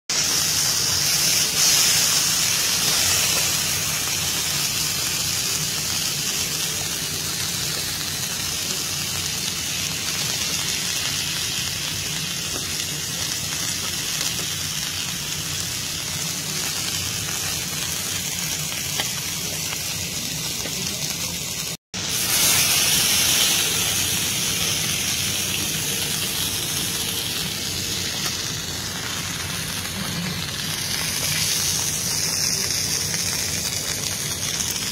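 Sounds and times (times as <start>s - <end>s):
steaks sizzling on a griddle: 0.1s - 34.9s.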